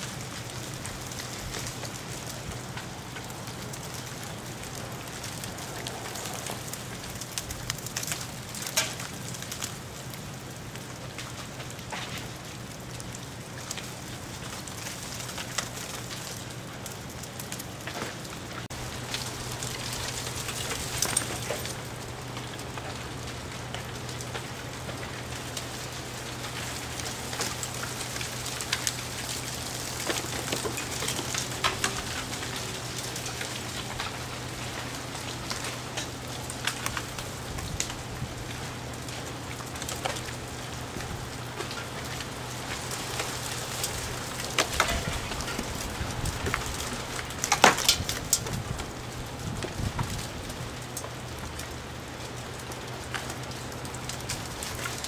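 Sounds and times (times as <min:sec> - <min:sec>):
ice fragments pattering through branches: 0:00.0 - 0:55.0.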